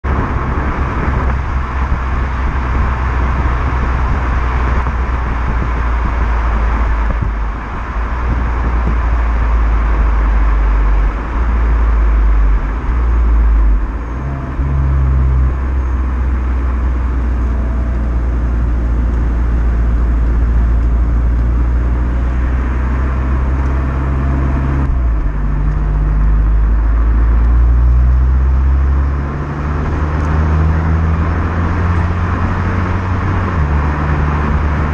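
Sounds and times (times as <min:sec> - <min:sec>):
car engine droning: 0:00.0 - 0:34.9.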